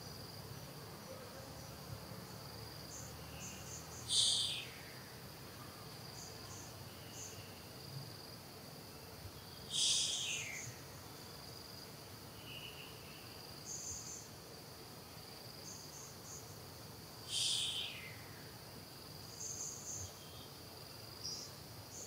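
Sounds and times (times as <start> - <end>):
insects chirring: 0.0 - 22.0
shrill high insect call: 0.0 - 22.0.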